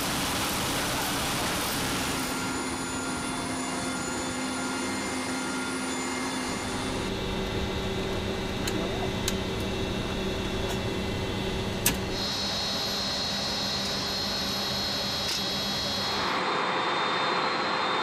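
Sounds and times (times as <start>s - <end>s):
flight deck equipment hum: 0.0s - 18.0s.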